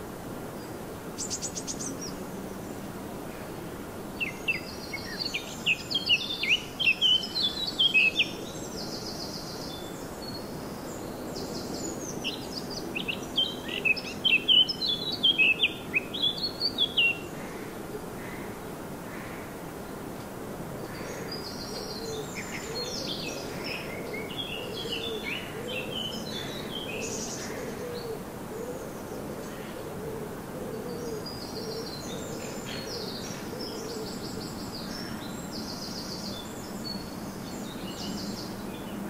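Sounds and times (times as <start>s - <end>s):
birds chirping song: 0.5s - 3.6s, 4.2s - 17.7s, 20.8s - 29.8s, 30.7s - 39.0s.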